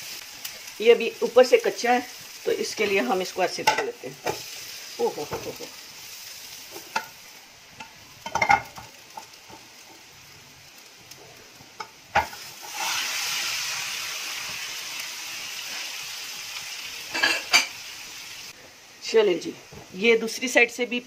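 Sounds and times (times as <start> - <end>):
omelet sizzling in pan: 0.0 - 21.0.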